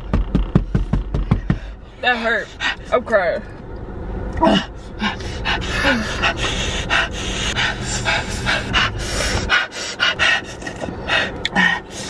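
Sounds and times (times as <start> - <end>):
person panting fast: 0.5 - 2.9, 4.7 - 12.0.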